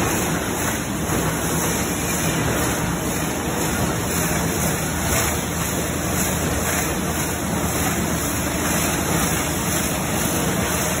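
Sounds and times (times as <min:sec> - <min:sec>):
factory machinery running: 0:00.0 - 0:11.0.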